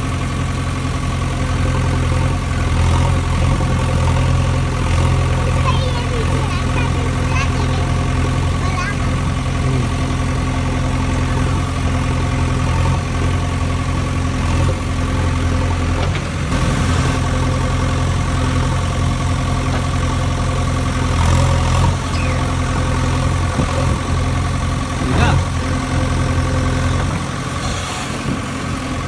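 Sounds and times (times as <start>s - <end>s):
heavy vehicle engine idling: 0.0s - 29.0s.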